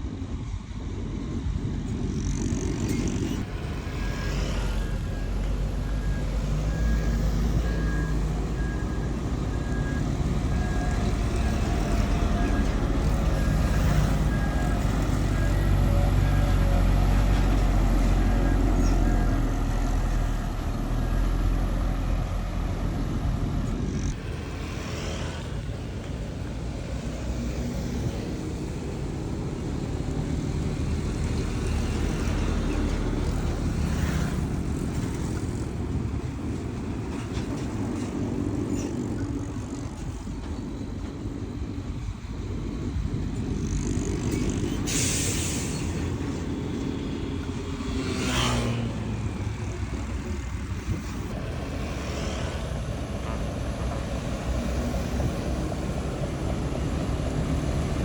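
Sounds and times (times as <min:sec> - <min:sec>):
diesel engines rumbling: 0:00.0 - 0:58.0.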